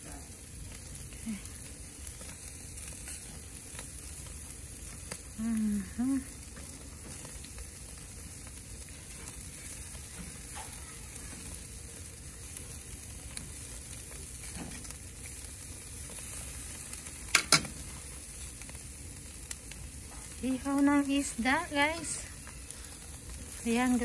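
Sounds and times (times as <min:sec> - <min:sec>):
fish sizzling over charcoal: 0:00.0 - 0:24.0.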